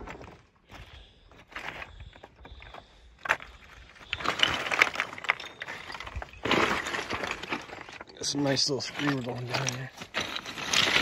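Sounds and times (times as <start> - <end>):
footsteps on loose scree: 0.0 - 11.0.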